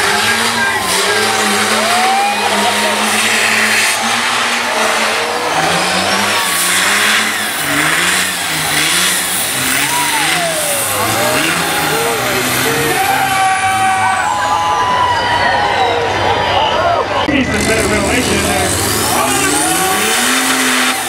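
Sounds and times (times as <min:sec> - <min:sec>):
diesel engine revving: 0:00.0 - 0:21.0.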